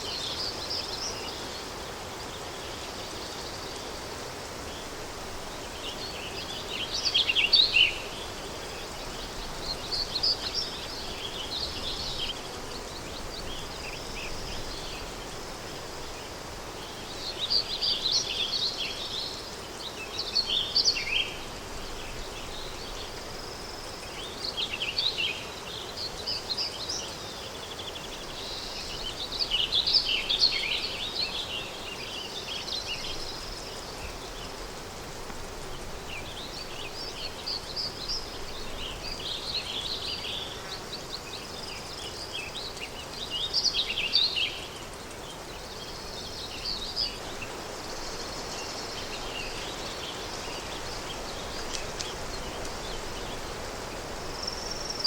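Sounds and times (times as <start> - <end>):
small birds chirping: 0.0 - 55.0
wind hiss: 0.0 - 55.0.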